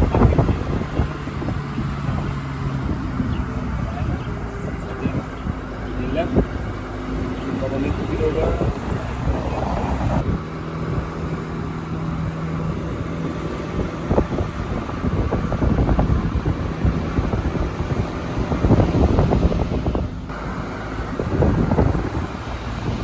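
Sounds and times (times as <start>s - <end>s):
car engine and road rumble: 0.0s - 23.0s
engine hum: 0.0s - 23.0s
wind buffeting microphone: 0.0s - 23.0s.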